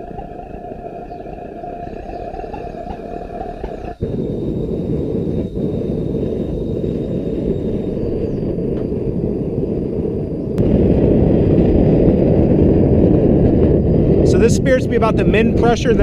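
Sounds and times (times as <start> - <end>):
gas burner roaring: 0.0 - 16.0.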